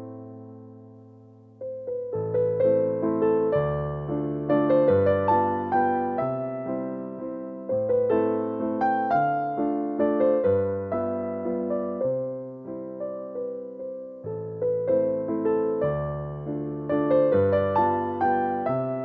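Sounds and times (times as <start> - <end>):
solo piano waltz: 0.0 - 19.0.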